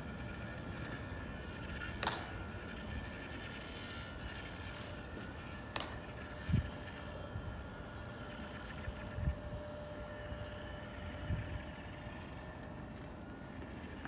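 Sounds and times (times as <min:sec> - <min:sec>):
wind noise: 0:00.0 - 0:13.3.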